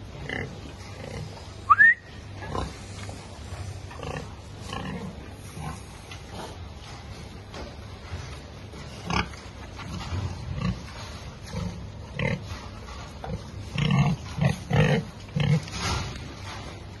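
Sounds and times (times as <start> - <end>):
pigs grunting: 0.0 - 1.6, 2.3 - 7.4, 8.2 - 16.6.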